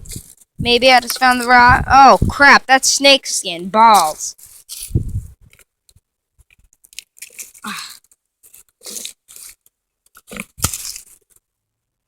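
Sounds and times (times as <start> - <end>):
dirt and debris crunching: 0.0 - 2.6, 3.8 - 11.4.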